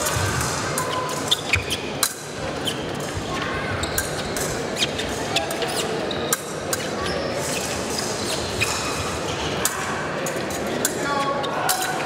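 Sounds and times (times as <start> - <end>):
crowd murmur in large hall: 0.0 - 12.0.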